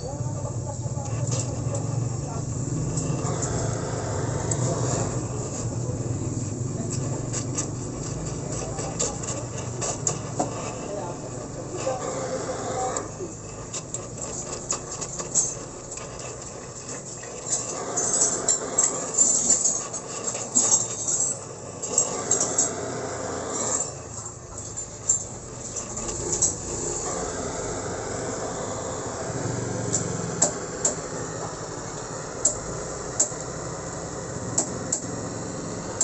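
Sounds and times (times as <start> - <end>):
torch flame hissing: 0.0 - 36.0
sharp clicks and crackles: 0.3 - 28.4, 29.2 - 35.2.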